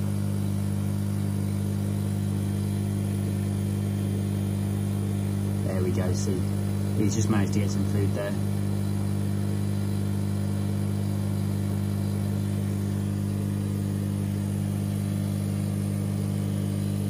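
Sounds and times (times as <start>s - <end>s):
aquarium equipment humming: 0.0s - 17.0s.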